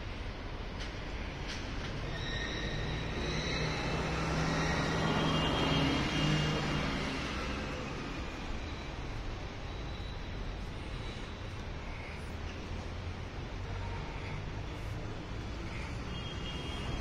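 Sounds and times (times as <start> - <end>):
passing vehicle engine rumble: 2.8 - 17.0.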